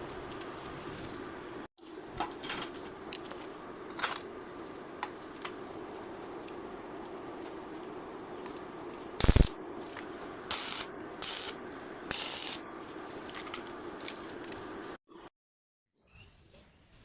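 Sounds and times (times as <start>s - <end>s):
steady hum: 0.0s - 15.3s.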